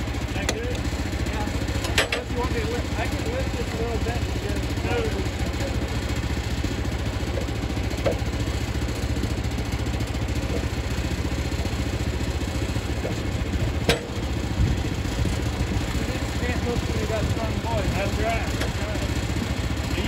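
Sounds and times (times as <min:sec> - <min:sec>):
small gasoline engine idling: 0:00.0 - 0:20.0.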